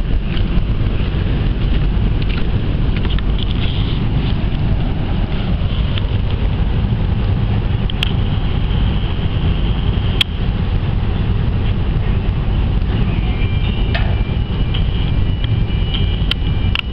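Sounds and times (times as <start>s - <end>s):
ferry engines rumbling: 0.0s - 16.9s
wind buffeting microphone: 0.0s - 16.9s
thin whine: 1.8s - 16.9s.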